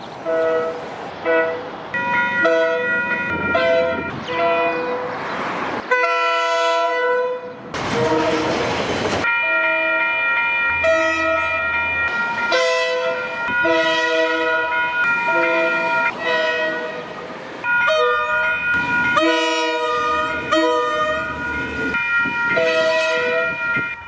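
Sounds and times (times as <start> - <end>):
rushing train noise: 0.0 - 24.0
train horn chord blasts: 0.2 - 5.2, 5.9 - 8.6, 10.7 - 21.8, 22.5 - 23.7.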